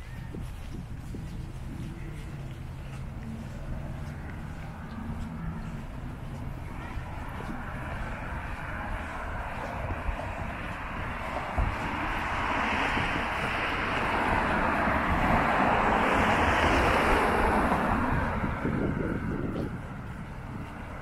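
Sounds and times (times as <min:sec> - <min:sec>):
cars passing on road: 0:00.0 - 0:21.0
wind rumbling on microphone: 0:00.0 - 0:21.0.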